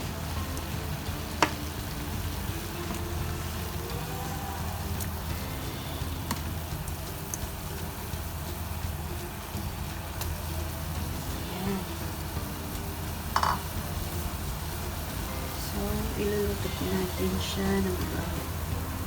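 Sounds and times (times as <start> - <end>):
pot bubbling: 0.0 - 19.0.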